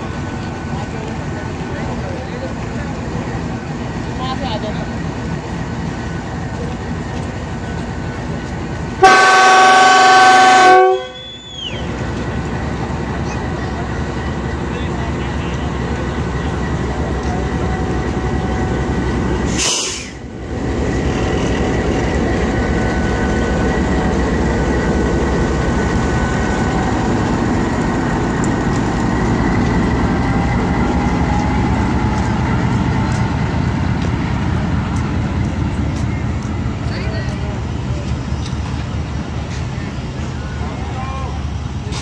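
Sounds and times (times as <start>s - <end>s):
diesel locomotive engine drone: 0.0s - 42.0s
passenger coaches rolling past: 0.0s - 42.0s.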